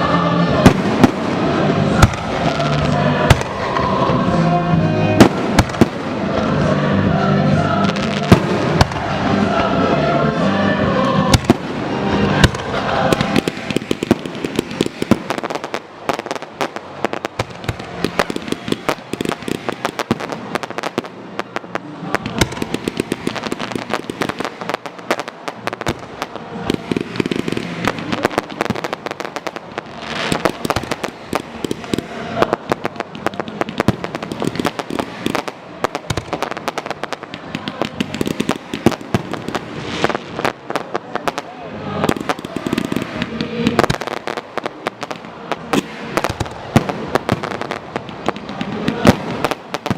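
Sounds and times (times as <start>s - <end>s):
fireworks bangs: 0.0s - 49.9s
fireworks crackling and popping: 0.0s - 49.9s.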